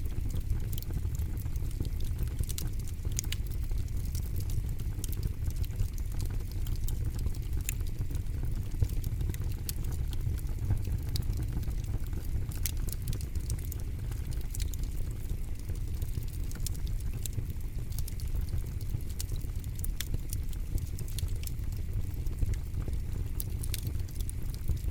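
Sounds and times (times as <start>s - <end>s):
flames rumbling: 0.0s - 24.9s
wood crackling and popping: 0.0s - 24.9s.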